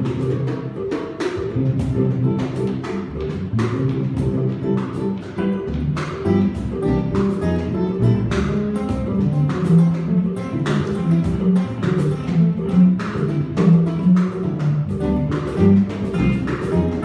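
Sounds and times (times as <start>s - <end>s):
acoustic guitar: 0.0s - 17.0s
cajon strokes: 0.0s - 17.0s
upright bass: 0.0s - 17.0s.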